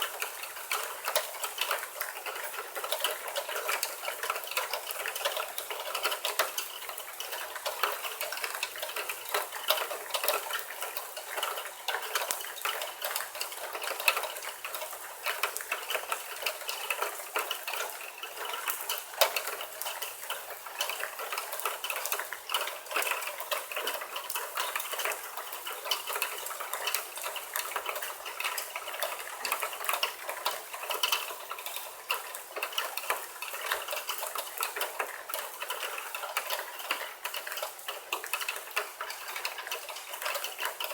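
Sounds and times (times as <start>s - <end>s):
water tapping on gutters: 0.0s - 40.9s.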